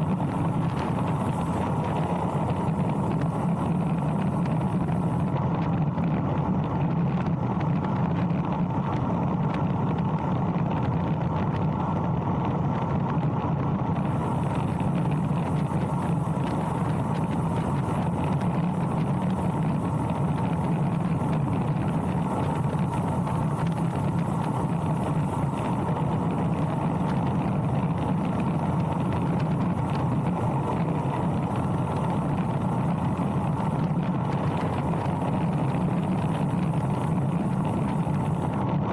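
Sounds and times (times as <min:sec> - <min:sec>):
bike tyres humming on asphalt: 0:00.0 - 0:38.9
wind rushing over microphone: 0:00.0 - 0:38.9.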